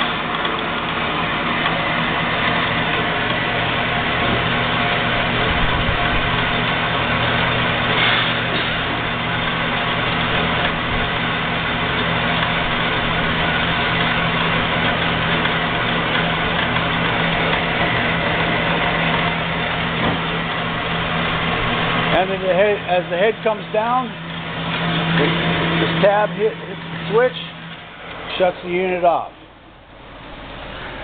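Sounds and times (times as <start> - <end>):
band saw running: 0.0 - 31.0.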